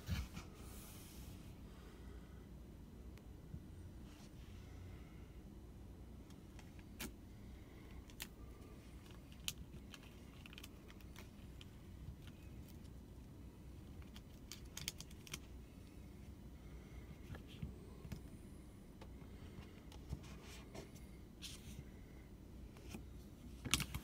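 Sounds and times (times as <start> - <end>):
faint low rumble: 0.0 - 23.7.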